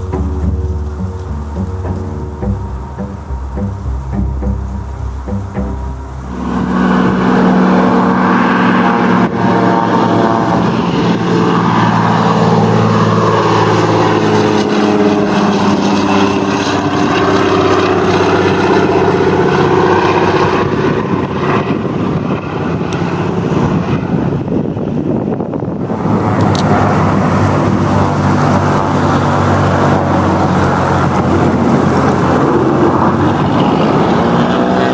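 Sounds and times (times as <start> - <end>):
propeller plane taking off: 0.0 - 34.9.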